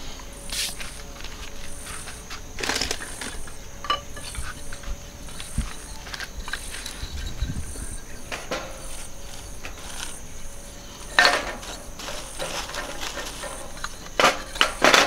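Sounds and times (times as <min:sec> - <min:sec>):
wooden sticks clacking on metal grate: 0:00.5 - 0:15.0.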